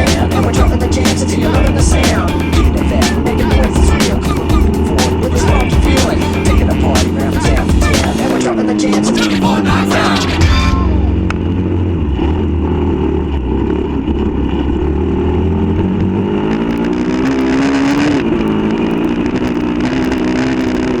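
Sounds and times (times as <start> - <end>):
pit bike engine running: 0.0 - 21.0.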